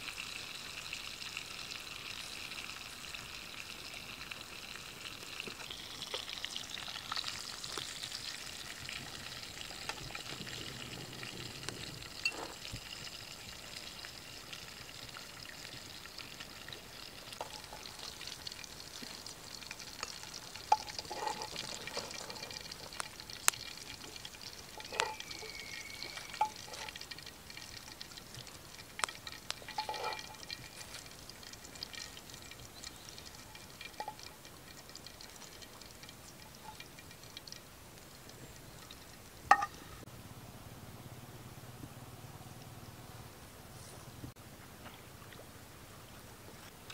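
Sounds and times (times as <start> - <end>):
fish sizzling in oil: 0.0 - 40.0.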